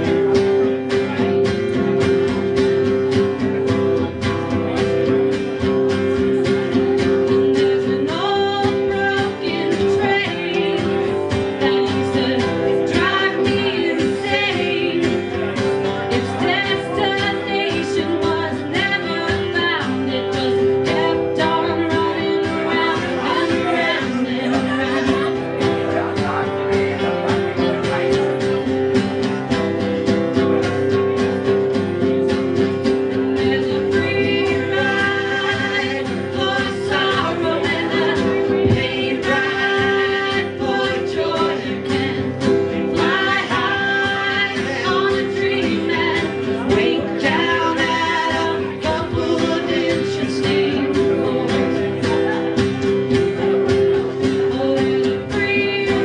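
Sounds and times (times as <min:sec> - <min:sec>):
band playing live: 0:00.0 - 0:56.0
guitar: 0:00.0 - 0:56.0
person singing: 0:00.0 - 0:56.0.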